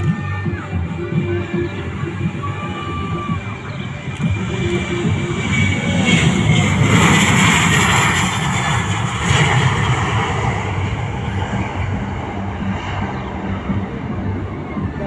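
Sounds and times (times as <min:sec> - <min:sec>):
airliner engines passing: 0:00.0 - 0:15.0.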